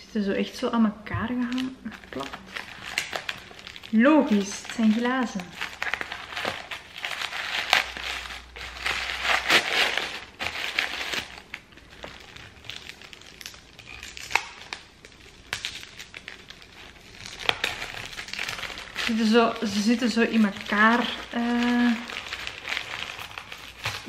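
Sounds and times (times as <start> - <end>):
packing paper crinkling: 1.4 - 24.0.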